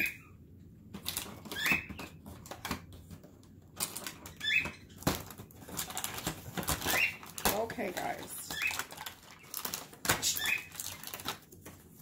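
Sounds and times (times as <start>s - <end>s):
cardboard boxes rustling and clicking: 1.0s - 12.0s.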